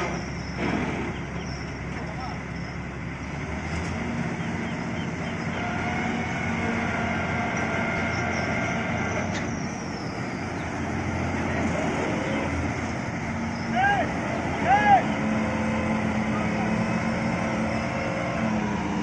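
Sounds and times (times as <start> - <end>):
combine harvester diesel engine: 0.0 - 19.0.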